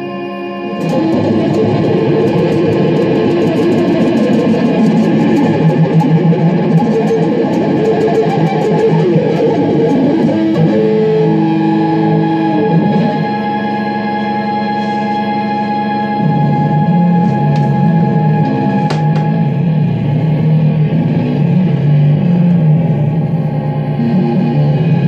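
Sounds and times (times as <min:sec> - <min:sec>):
electric guitar played fast: 0:00.0 - 0:25.0.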